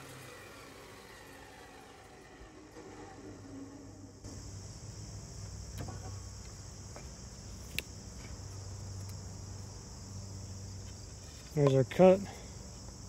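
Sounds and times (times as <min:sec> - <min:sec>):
insects chirring: 0:00.2 - 0:13.0.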